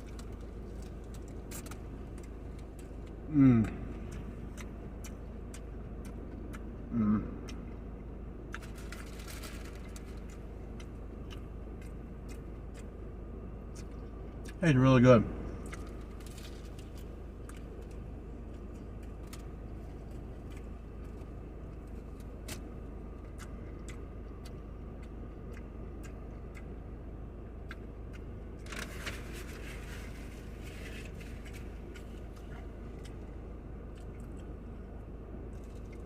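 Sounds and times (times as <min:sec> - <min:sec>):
chewing clicks: 0:00.0 - 0:06.8, 0:08.5 - 0:14.6, 0:15.5 - 0:29.1, 0:31.0 - 0:36.0.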